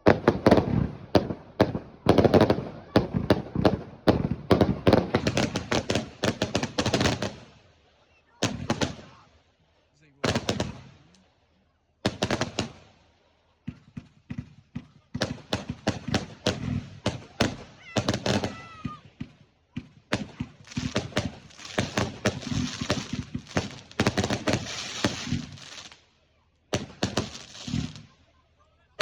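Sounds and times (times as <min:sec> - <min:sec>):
fireworks banging and crackling: 0:00.0 - 0:09.3, 0:10.0 - 0:11.2, 0:12.0 - 0:29.0.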